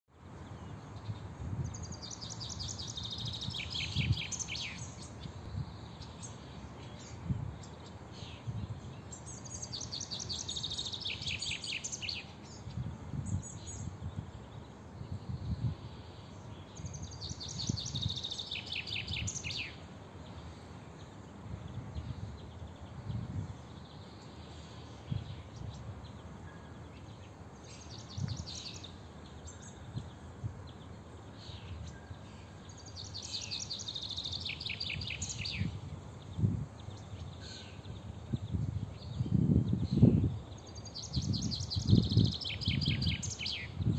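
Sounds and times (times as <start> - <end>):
songbird singing: 0.1 - 43.9.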